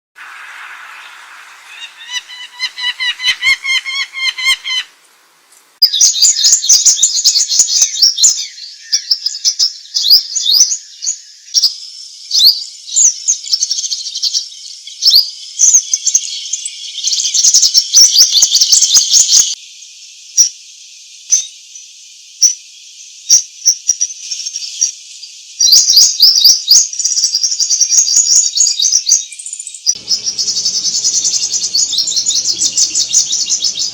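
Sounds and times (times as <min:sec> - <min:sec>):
songbirds chirping and trilling: 0:00.2 - 0:33.9.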